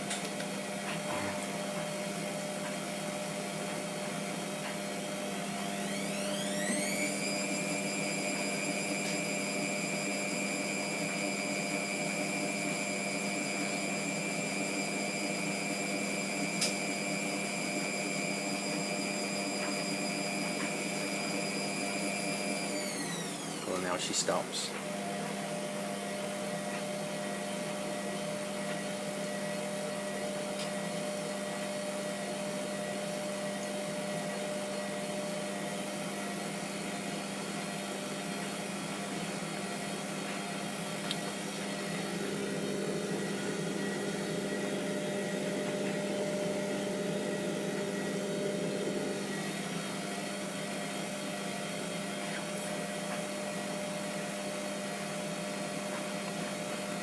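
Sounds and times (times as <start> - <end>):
washing machine motor and pump hum: 0.0 - 57.0.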